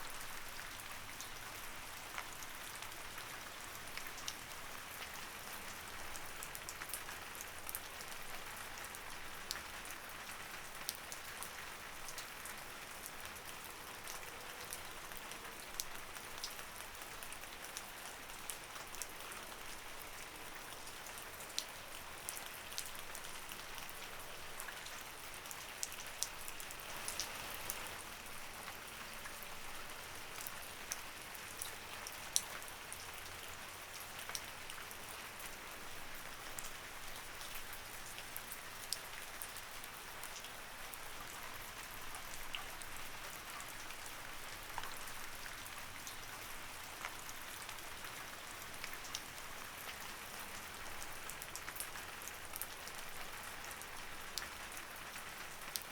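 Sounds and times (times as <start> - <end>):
light rain patter: 0.0 - 55.9.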